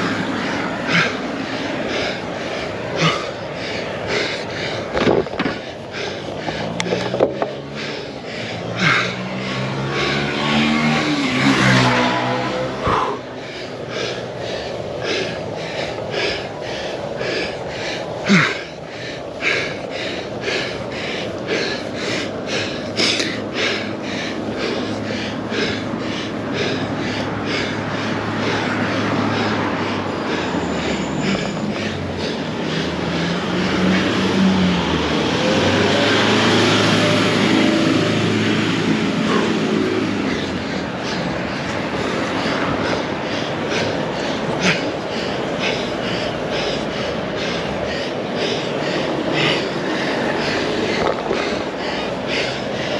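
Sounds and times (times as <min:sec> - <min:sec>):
car passing: 0:00.0 - 0:52.9
person breathing hard: 0:00.0 - 0:52.9
vehicle engine: 0:00.0 - 0:52.9.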